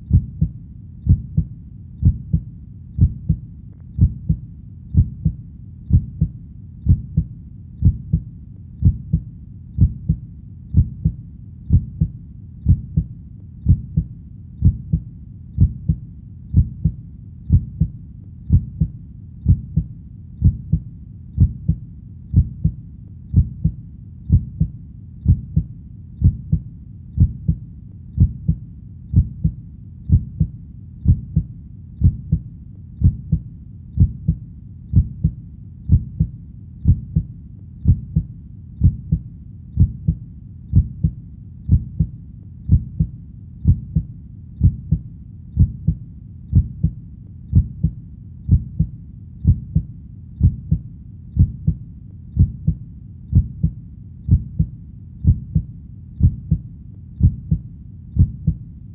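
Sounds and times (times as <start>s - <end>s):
heartbeat thumps: 0.0s - 58.7s.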